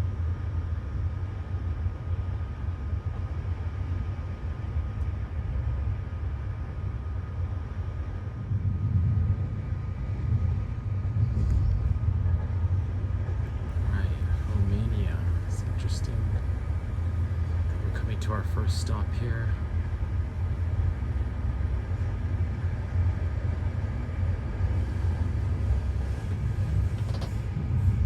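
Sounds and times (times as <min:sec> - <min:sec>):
faint train whine: 0:00.0 - 0:28.0
train rumble: 0:00.0 - 0:28.0.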